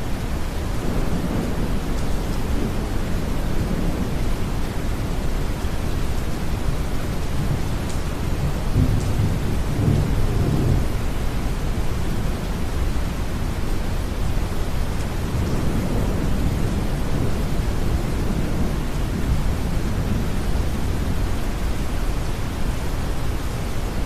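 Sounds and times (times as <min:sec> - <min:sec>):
steady rain: 0:00.0 - 0:24.0
distant thunder rumble: 0:00.6 - 0:13.3, 0:14.4 - 0:21.8.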